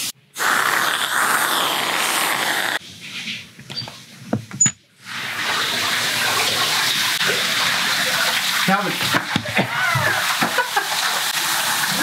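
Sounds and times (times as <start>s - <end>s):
shower running: 0.0s - 12.0s.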